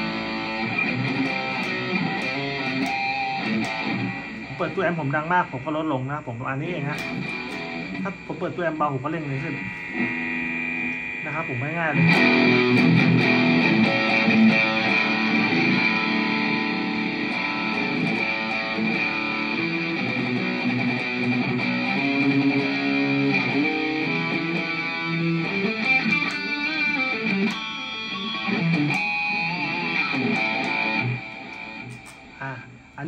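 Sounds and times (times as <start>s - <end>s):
electric guitar solo: 0.0s - 32.8s.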